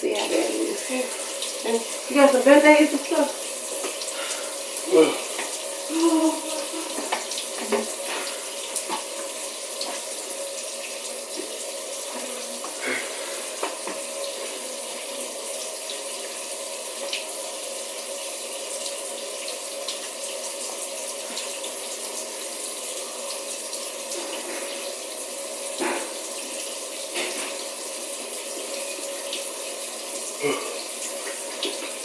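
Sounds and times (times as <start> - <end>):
faucet running into sink: 0.0 - 32.0.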